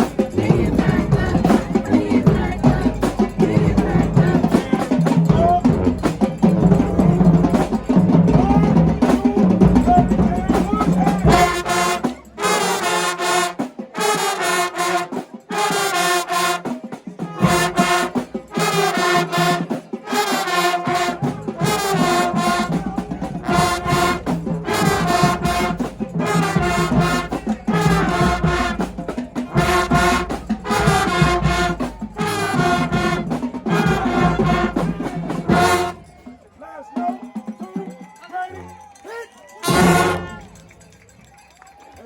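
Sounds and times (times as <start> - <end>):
loud brass chords: 0.0 - 36.6, 39.6 - 40.8
marching band playing: 0.0 - 42.0.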